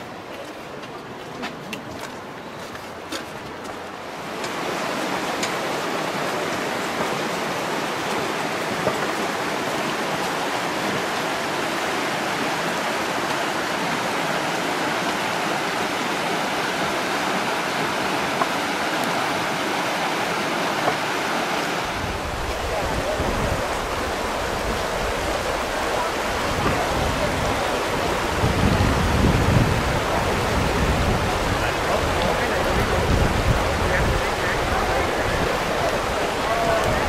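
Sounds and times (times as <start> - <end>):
stream water rushing: 0.0 - 37.0.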